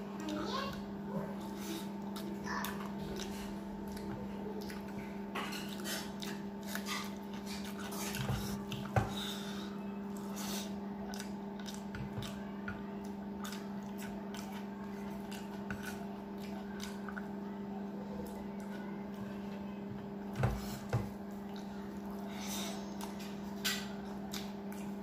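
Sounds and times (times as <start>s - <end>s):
food squishing: 0.1s - 9.4s, 10.0s - 25.0s
wet chewing and mouth sounds: 0.2s - 25.0s.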